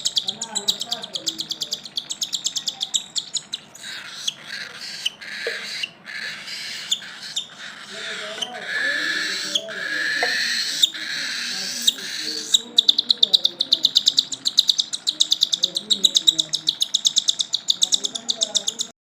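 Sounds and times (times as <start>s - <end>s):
cockatiel high chirps: 0.0s - 18.9s
cockatiel hissy call: 3.4s - 18.8s.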